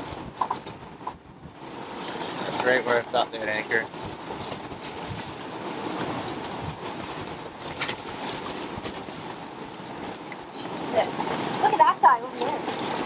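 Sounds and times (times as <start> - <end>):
choppy sea water: 0.0 - 13.0
strong wind rushing: 0.0 - 13.0.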